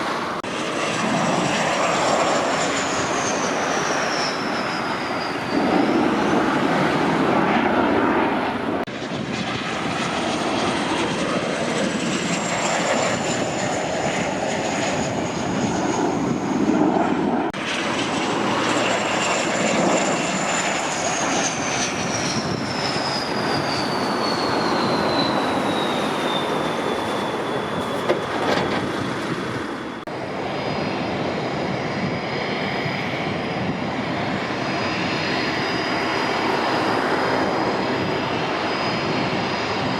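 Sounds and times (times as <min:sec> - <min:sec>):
jet engines passing: 0:00.0 - 0:39.9.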